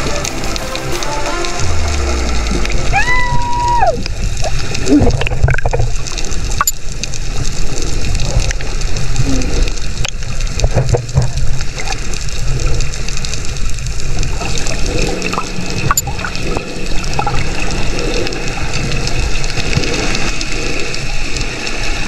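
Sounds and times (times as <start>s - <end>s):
sea water sloshing and gurgling: 3.6s - 22.0s.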